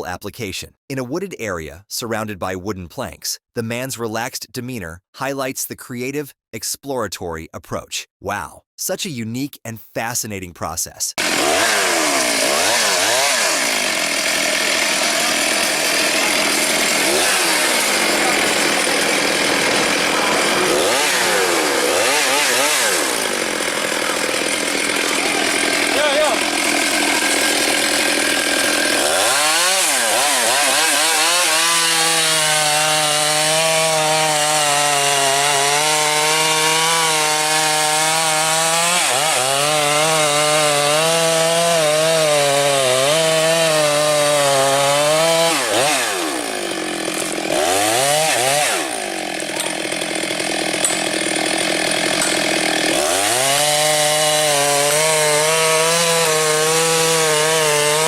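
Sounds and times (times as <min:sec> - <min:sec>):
chainsaw cutting wood: 0:11.2 - 0:58.0.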